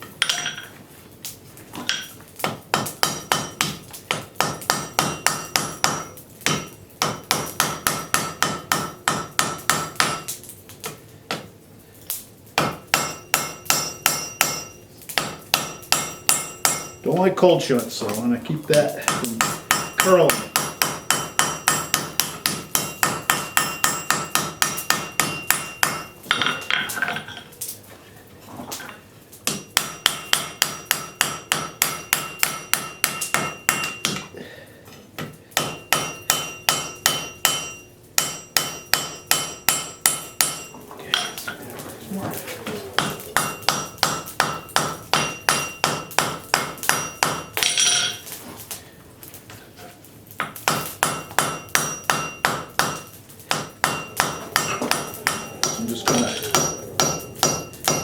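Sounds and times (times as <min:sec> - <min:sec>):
hammer striking metal on anvil: 0:00.2 - 0:00.7, 0:01.8 - 0:10.4, 0:12.6 - 0:17.2, 0:18.8 - 0:27.5, 0:29.4 - 0:34.3, 0:35.2 - 0:41.5, 0:43.0 - 0:48.3, 0:50.4 - 0:58.0.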